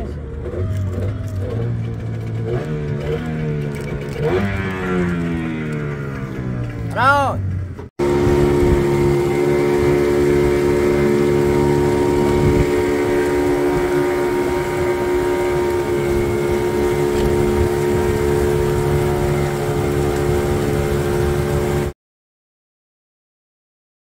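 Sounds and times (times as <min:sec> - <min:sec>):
water rushing along hull: 0:00.0 - 0:07.3, 0:08.0 - 0:22.0
boat engine droning: 0:00.0 - 0:22.0.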